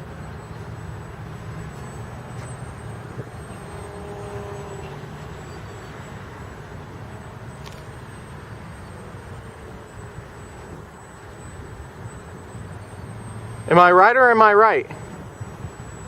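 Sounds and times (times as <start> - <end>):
distant propeller motor whine: 0.0 - 16.0.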